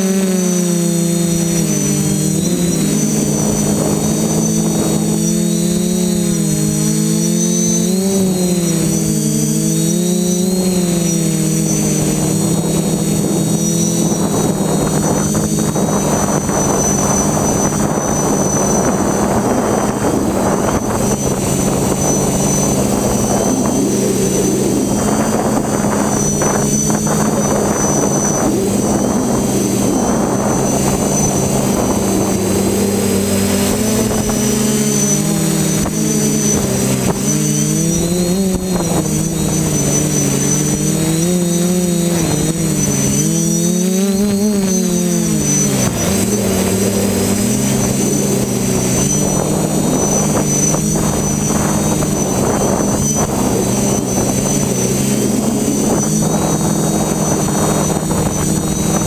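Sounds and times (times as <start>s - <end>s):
quadcopter motors buzzing: 0.0s - 59.0s
rushing air: 0.0s - 59.0s.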